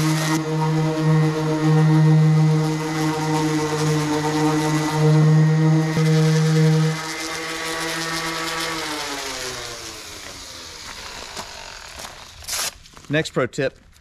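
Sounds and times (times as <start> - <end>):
orbital sander humming: 0.0 - 12.2.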